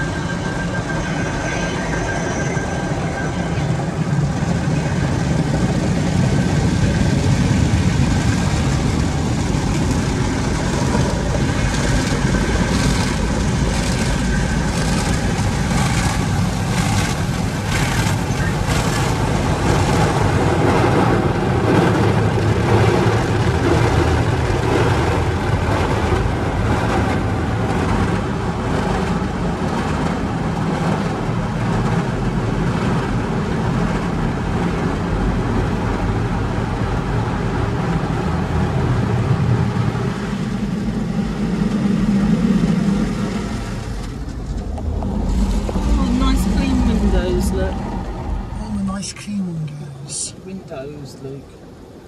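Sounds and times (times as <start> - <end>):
car wash water jets and strips: 5.8 - 48.1.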